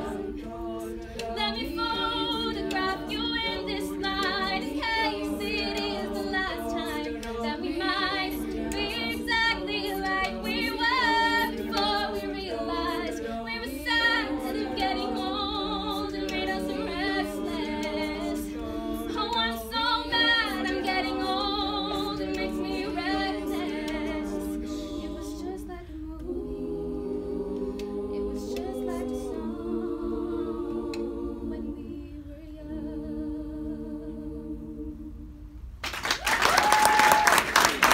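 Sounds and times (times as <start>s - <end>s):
women's group singing in harmony: 0.0s - 35.7s.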